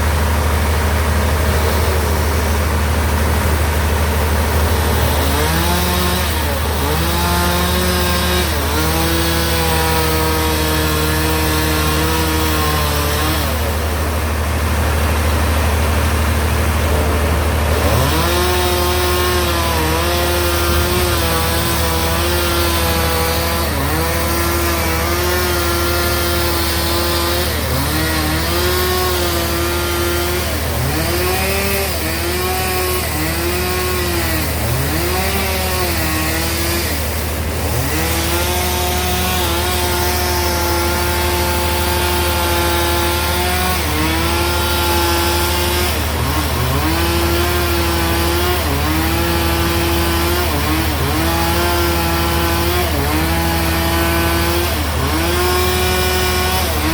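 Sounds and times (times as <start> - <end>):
bandsaw cutting log: 0.0 - 56.9.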